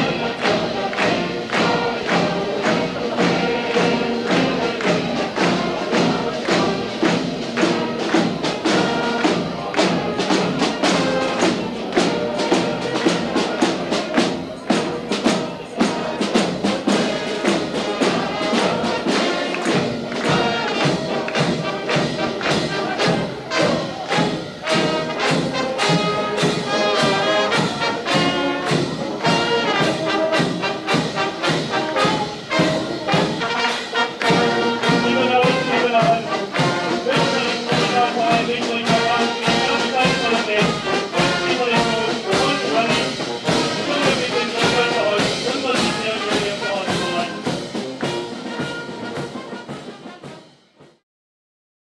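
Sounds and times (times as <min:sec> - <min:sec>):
brass band music: 0:00.0 - 0:51.0.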